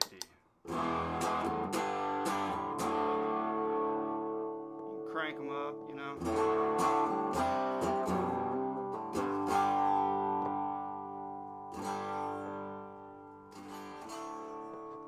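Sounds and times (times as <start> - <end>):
overdriven electric guitar chords: 0.7 - 15.0.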